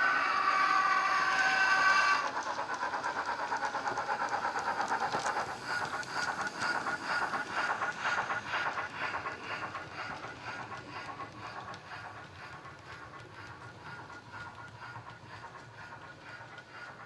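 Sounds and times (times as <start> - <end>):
steam exhaust chuffs: 0.0 - 17.0.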